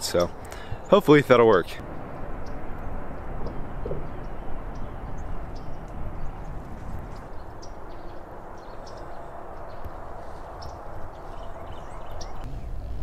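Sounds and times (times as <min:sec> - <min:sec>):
wind on microphone: 0:01.8 - 0:13.0
bird chirps: 0:02.0 - 0:12.9.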